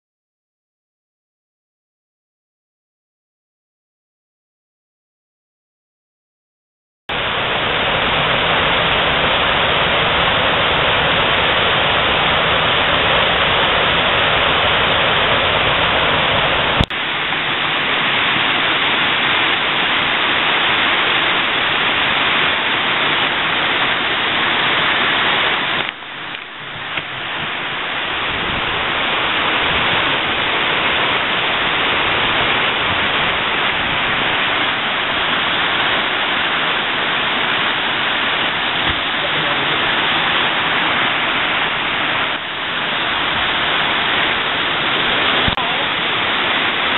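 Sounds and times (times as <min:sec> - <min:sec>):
water rushing over a weir: 0:07.1 - 0:46.9.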